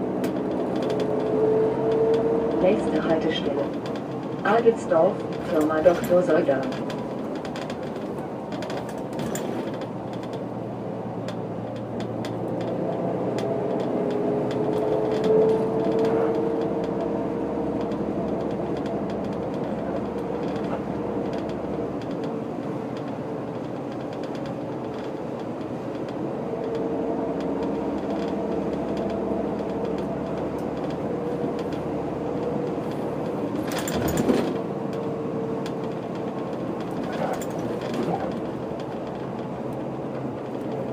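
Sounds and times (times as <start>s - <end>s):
bus diesel engine driving: 0.0s - 40.9s.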